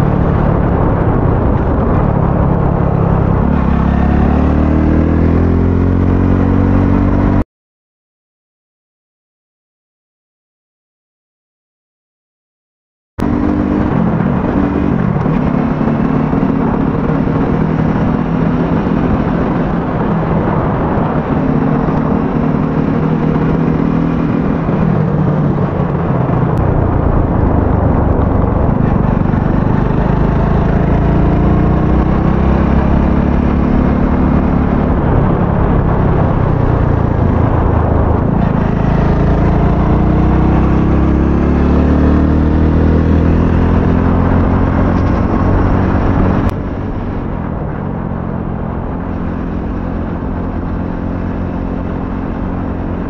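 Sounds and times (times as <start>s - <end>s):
low rumble: 0.0s - 7.4s, 13.2s - 53.0s
motorcycle engine revving: 0.0s - 7.4s, 13.2s - 53.0s.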